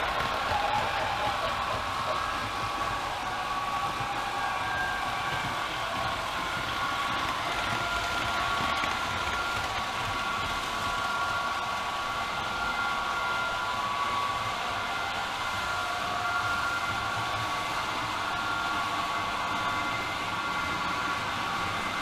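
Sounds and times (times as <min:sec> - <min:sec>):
model train motor whine: 0:00.0 - 0:22.0
model train wheels on rail: 0:00.0 - 0:22.0.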